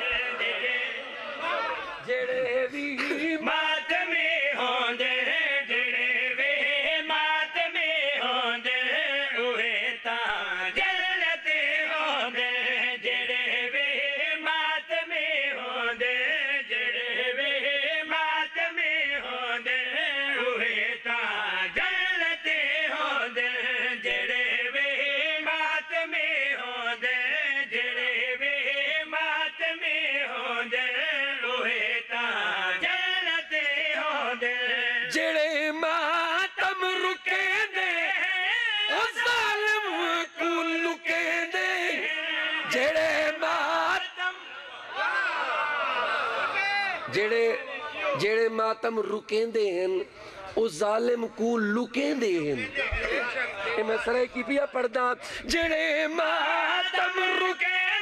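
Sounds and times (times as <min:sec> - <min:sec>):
man chanting into a microphone: 0:00.0 - 0:44.7, 0:47.1 - 0:58.0.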